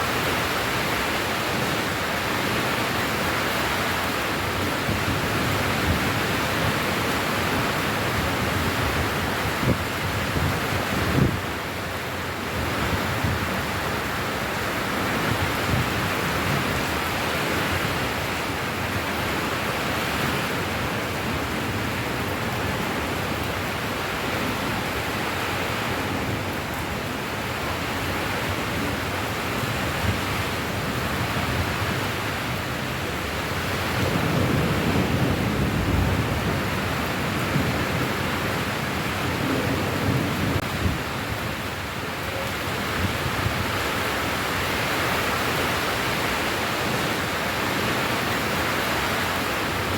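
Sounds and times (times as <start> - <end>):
dense rainfall: 0.0 - 49.9.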